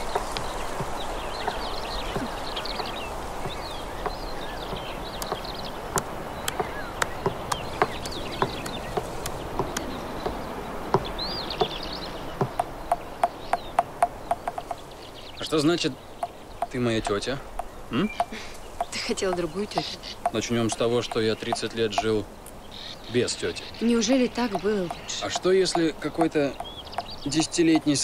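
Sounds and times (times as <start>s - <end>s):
sharp taps: 0.0s - 11.8s, 12.4s - 15.0s, 15.8s - 22.2s, 24.4s - 28.0s
outdoor background hiss: 0.0s - 28.0s
small birds chirping: 0.0s - 28.0s.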